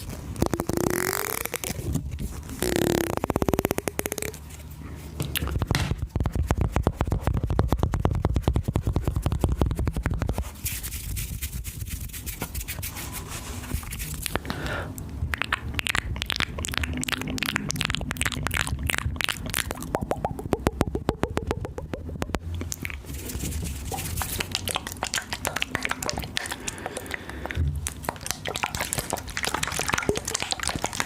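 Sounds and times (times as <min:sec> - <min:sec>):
wet mouth clicking and smacking: 0:00.0 - 0:04.4, 0:05.2 - 0:10.4, 0:13.9 - 0:31.0.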